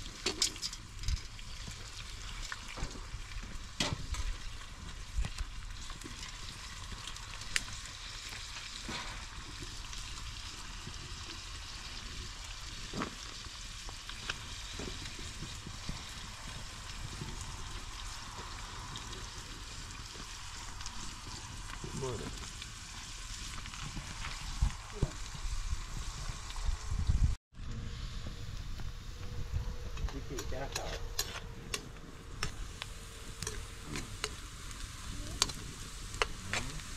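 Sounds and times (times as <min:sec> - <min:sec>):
food sizzling in hot oil: 0:00.0 - 0:27.4, 0:32.4 - 0:36.9
sharp crackles: 0:00.0 - 0:36.9.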